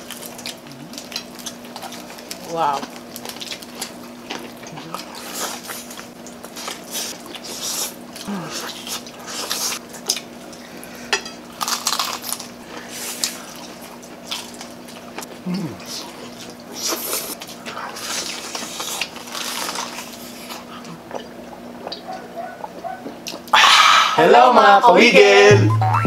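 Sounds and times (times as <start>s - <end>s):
crunchy bites and chewing: 0.0s - 10.6s, 11.5s - 23.6s.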